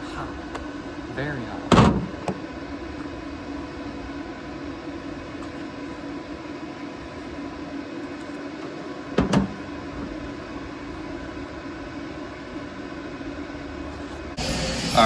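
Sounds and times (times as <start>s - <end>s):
faint steady whine: 0.0s - 15.0s
fan-like machine hum: 0.0s - 15.0s.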